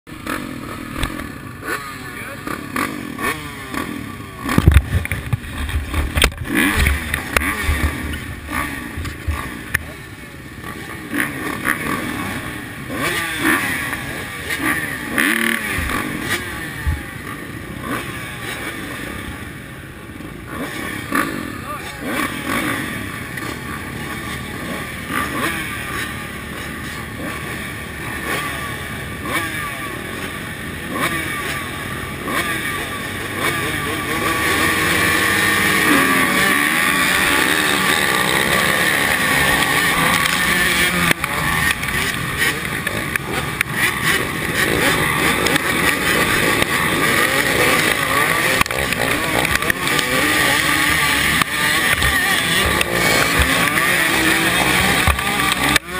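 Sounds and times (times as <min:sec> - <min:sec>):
motocross bikes revving and racing: 0:00.1 - 0:55.9.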